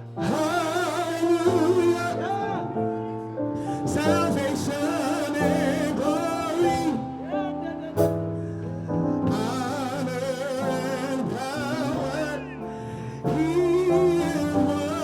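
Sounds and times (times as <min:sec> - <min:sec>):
held keyboard chords: 0:00.0 - 0:15.0
person singing gospel song: 0:00.0 - 0:15.0.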